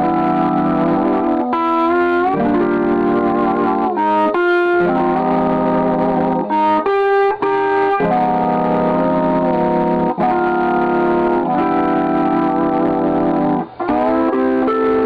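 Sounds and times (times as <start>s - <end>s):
sustained chords through amplifier: 0.0s - 15.0s.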